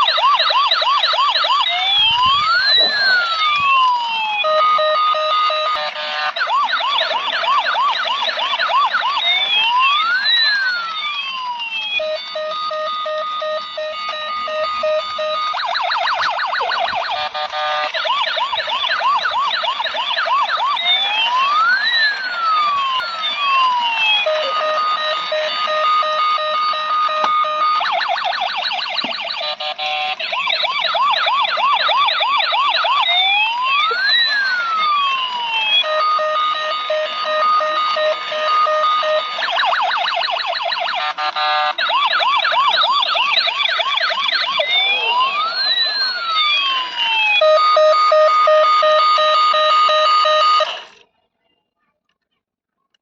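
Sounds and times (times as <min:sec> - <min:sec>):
electronic toy siren: 0:00.0 - 0:51.1.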